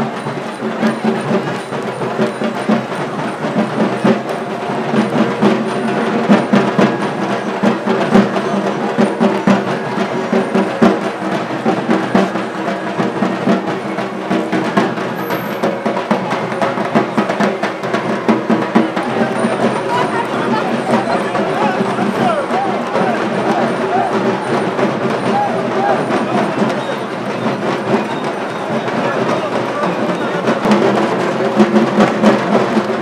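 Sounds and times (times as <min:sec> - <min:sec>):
fast drum beats: 0:00.0 - 0:33.0.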